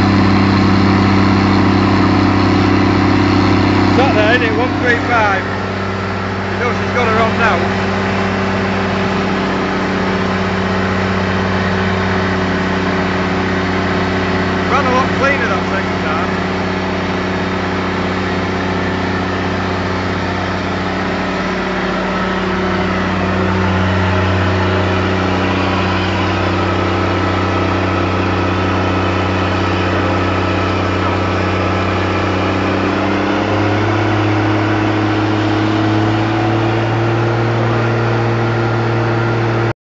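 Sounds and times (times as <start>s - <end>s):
tractor diesel engine running: 0.0s - 39.7s.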